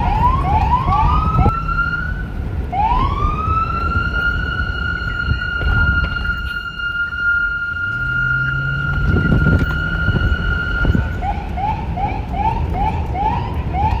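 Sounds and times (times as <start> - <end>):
low traffic rumble: 0.0 - 14.0
police siren: 0.0 - 14.0.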